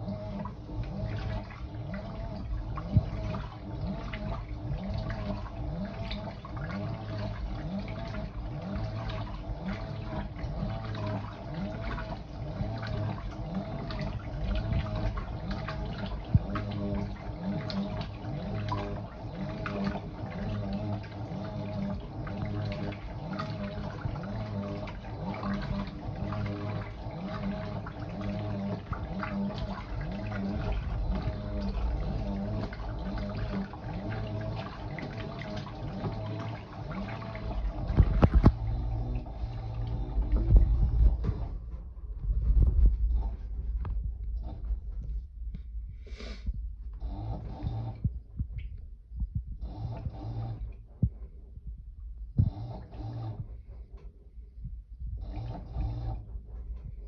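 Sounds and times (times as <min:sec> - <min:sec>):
washing machine motor whine: 0:00.0 - 0:46.0, 0:46.8 - 0:57.0
water sloshing in washing machine: 0:00.0 - 0:57.0.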